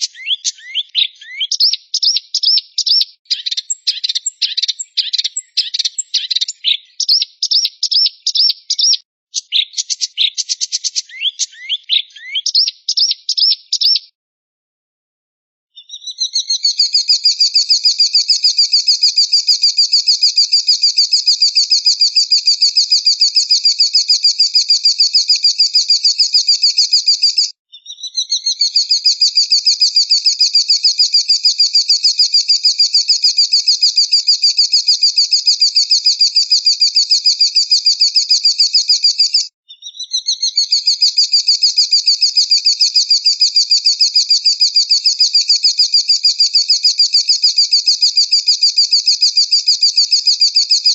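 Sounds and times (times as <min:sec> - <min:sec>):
songbird trilling: 0:00.0 - 0:14.1, 0:15.8 - 0:50.9.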